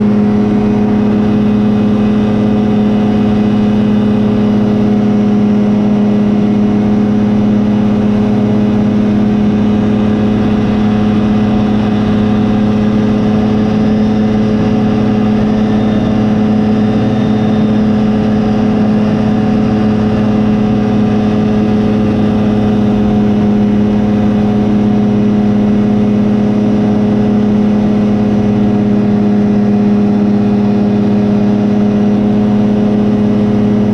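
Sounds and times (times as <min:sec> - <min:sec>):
two-stroke engine running loud: 0:00.0 - 0:33.9.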